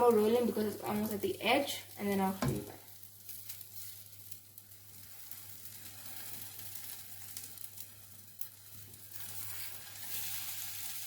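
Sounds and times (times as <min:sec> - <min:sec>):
egg sizzling in a pan: 0:00.0 - 0:11.0.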